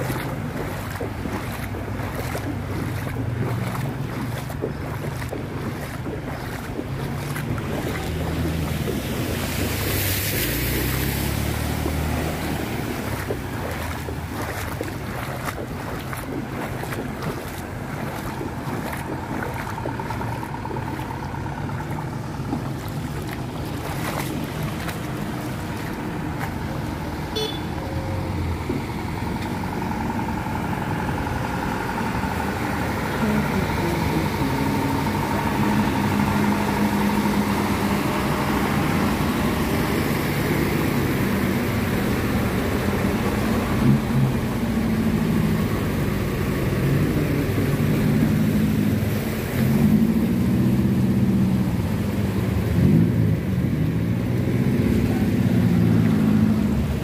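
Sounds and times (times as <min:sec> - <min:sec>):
vehicles driving on flooded road: 0:00.0 - 0:57.0.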